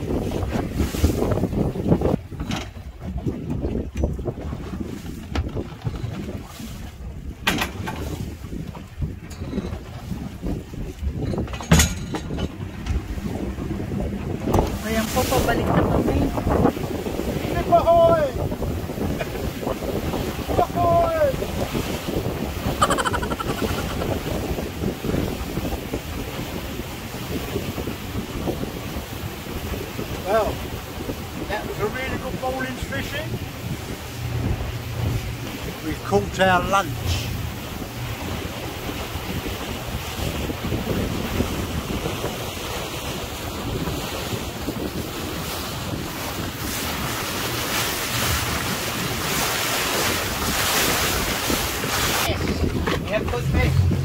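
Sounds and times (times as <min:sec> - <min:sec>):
sea waves against a boat: 0:00.0 - 0:54.0
wind buffeting microphone: 0:00.0 - 0:54.0.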